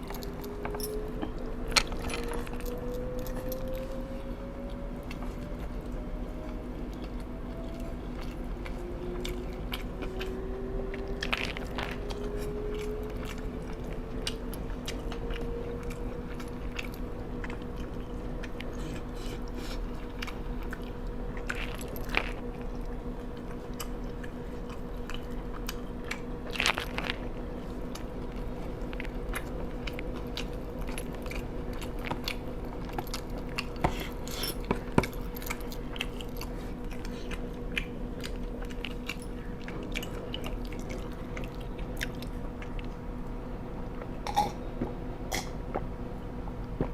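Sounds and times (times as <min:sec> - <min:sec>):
steady low hum: 0:00.0 - 0:46.9
person eating crunchy food: 0:05.0 - 0:43.1.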